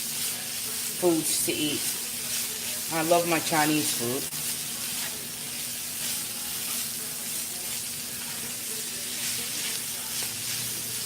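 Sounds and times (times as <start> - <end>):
food sizzling in a hot pan: 0.0 - 11.0.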